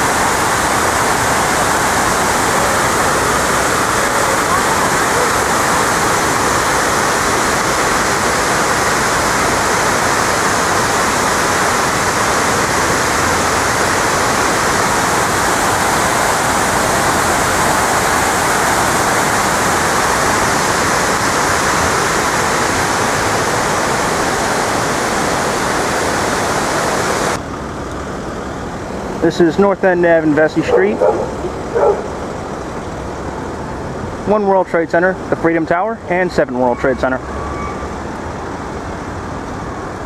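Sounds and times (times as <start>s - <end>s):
waterfall rushing into pool: 0.0s - 40.0s.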